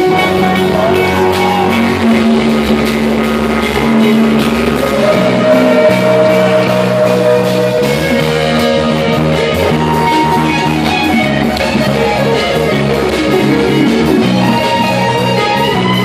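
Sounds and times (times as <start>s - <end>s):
drums: 0.0s - 16.0s
guitar: 0.0s - 16.0s
rock band playing live: 0.0s - 16.0s.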